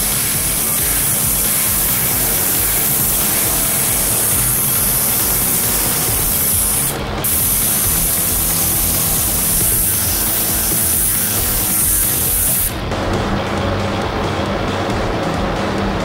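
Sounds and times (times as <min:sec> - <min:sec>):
paint spray gun hissing: 0:00.0 - 0:12.8.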